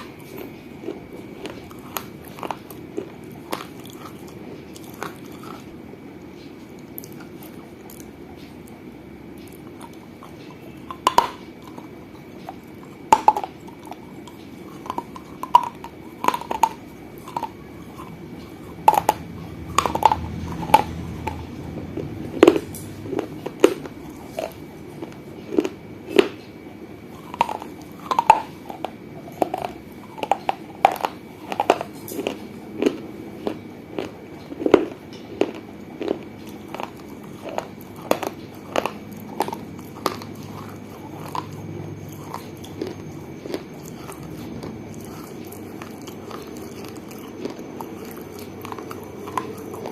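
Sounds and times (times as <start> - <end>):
clay pieces crunching in mouth: 0.0 - 8.8, 9.4 - 49.9.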